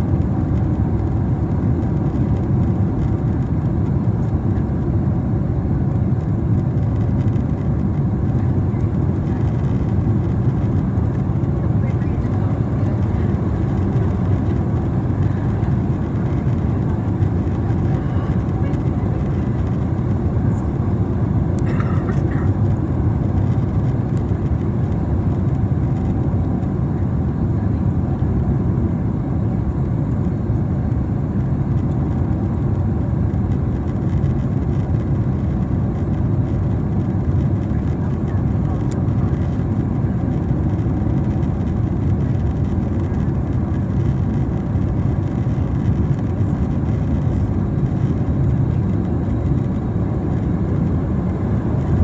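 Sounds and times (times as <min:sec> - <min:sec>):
aircraft cabin engine rumble: 0:00.0 - 0:52.0.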